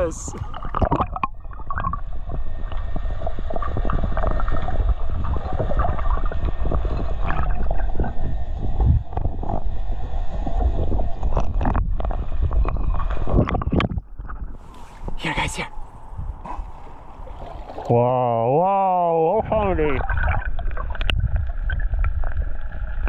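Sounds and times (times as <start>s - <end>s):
muffled underwater rush: 0.0s - 23.0s.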